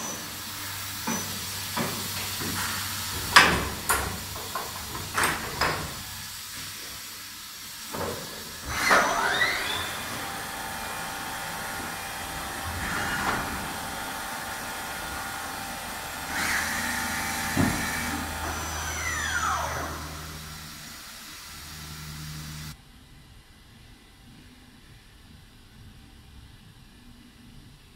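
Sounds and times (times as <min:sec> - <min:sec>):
workshop machinery hiss and hum: 0:00.0 - 0:22.8.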